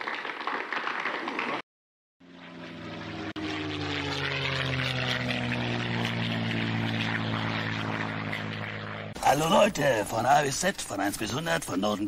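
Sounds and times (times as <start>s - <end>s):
propeller aircraft engine drone: 2.2s - 12.0s.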